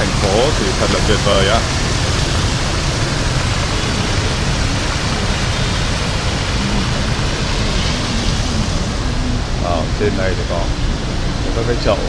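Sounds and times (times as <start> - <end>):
traffic: 0.0 - 12.0
water rushing: 0.0 - 12.0.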